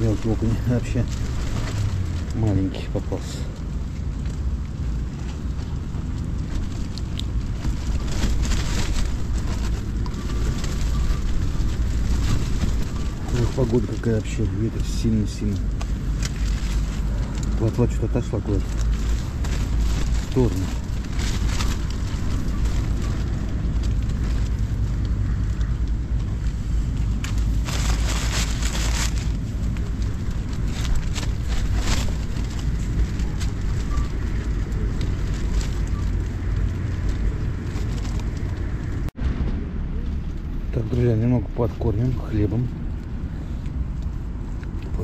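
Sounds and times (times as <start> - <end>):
tent fabric and clothing rustling: 0.0 - 39.2
strong wind buffeting: 0.0 - 40.9.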